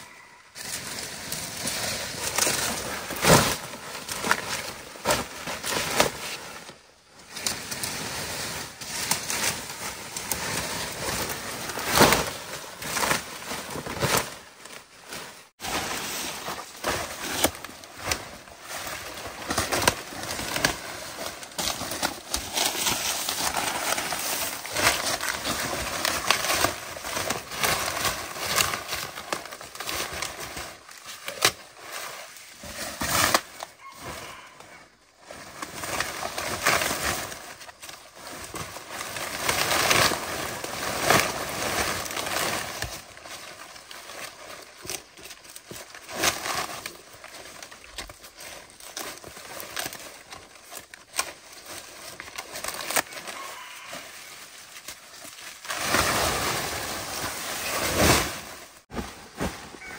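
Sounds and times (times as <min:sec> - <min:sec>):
leaves rustling and crackling: 0:00.0 - 0:59.9.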